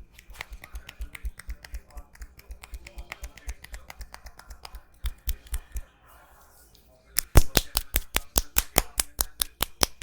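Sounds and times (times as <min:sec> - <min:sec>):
hands tapping on head: 0:00.2 - 0:05.8, 0:07.2 - 0:10.0.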